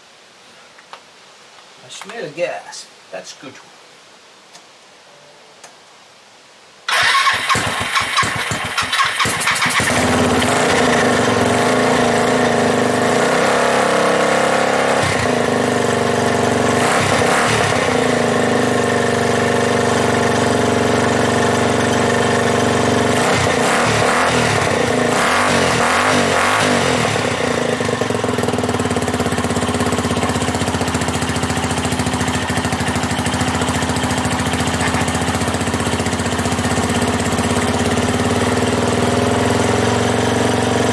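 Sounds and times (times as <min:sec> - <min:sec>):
motorcycle engine starting and revving: 0:06.9 - 0:40.9.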